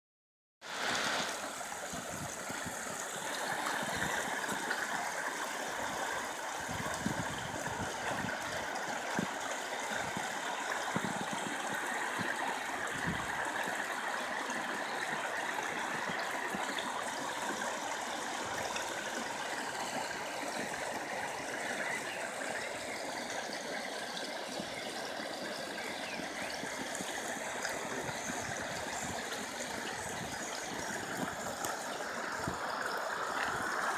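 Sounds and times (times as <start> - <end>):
floodwater rushing: 0.6 - 33.9.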